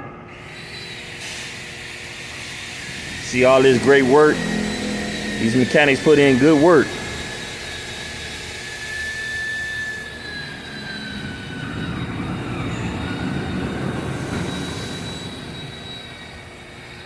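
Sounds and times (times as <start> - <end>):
machine whining over rushing noise: 2.1 - 16.4.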